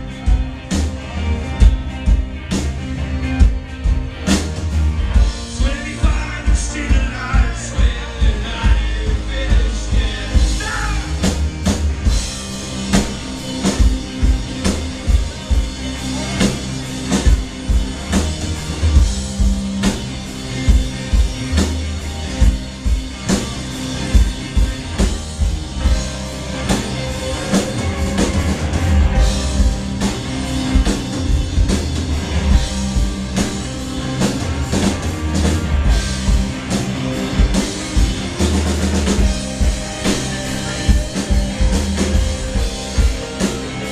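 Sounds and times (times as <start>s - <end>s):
drum kit beat: 0.0s - 43.9s
electric guitar: 0.0s - 43.9s
keyboard: 0.0s - 43.9s.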